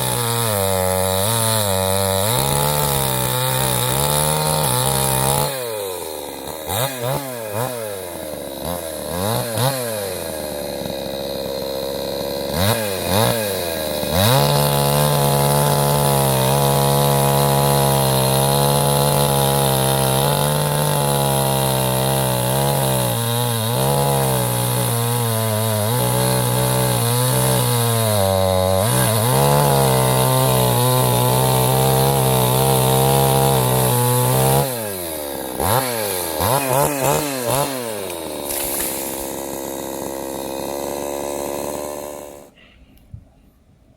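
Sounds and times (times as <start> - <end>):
chainsaw engine revving: 0.0 - 42.6.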